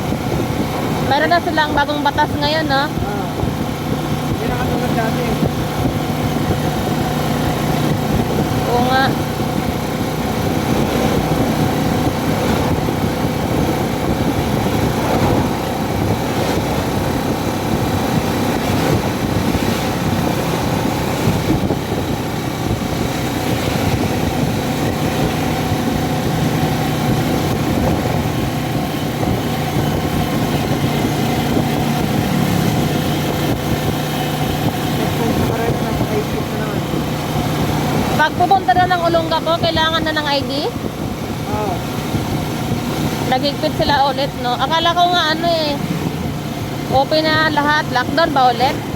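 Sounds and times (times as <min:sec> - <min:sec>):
car engine hum: 0:00.0 - 0:48.9
road noise inside car: 0:00.0 - 0:48.9.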